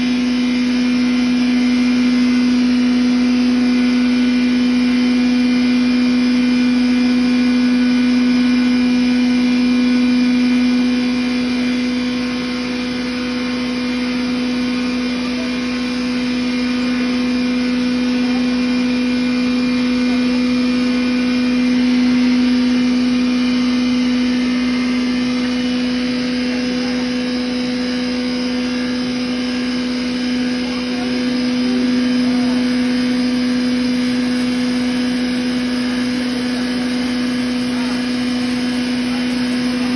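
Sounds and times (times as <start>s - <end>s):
grain grinder running: 0.0s - 39.9s.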